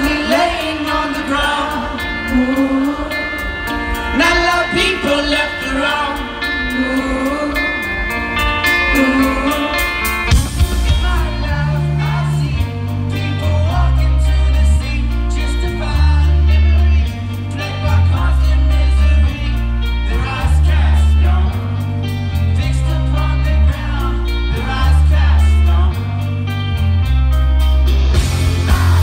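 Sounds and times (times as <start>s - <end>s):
man singing: 0.0s - 26.5s, 28.4s - 29.0s
electric guitar: 0.0s - 29.0s
heavy bass notes: 0.0s - 29.0s.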